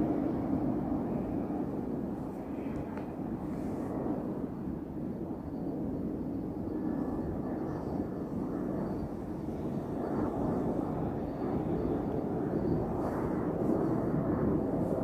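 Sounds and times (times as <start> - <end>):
airliner engine rumble: 0.0 - 15.0.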